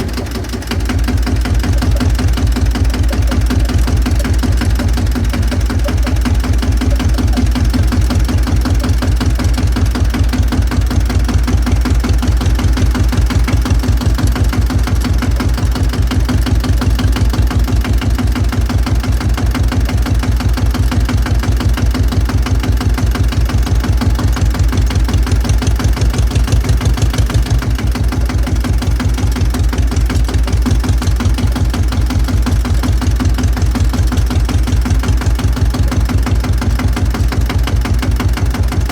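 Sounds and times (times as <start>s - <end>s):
tractor engine chugging: 0.0s - 38.9s.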